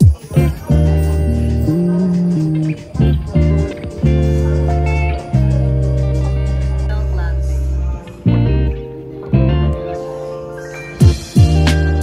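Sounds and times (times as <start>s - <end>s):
background music with steady bass: 0.0s - 12.0s.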